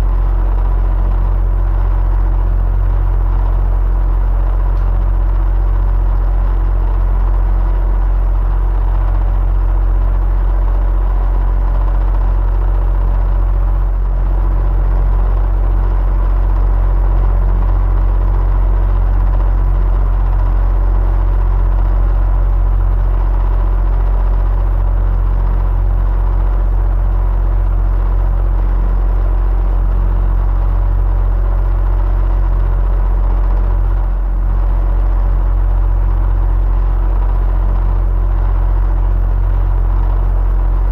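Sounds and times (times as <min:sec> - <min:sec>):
electric fan whirring: 0:00.0 - 0:40.9.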